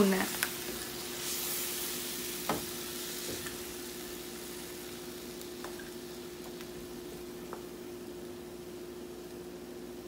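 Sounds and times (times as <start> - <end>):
chicken sizzling in oil: 0.0 - 9.7
steady low hum: 0.0 - 10.0.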